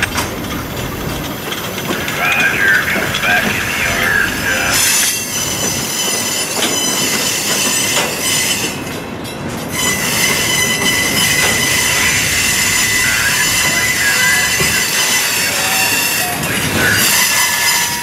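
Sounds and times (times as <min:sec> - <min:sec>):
steel wheels grinding on rail: 0:00.0 - 0:18.0
high wheel squeal: 0:01.9 - 0:08.9, 0:09.7 - 0:18.0.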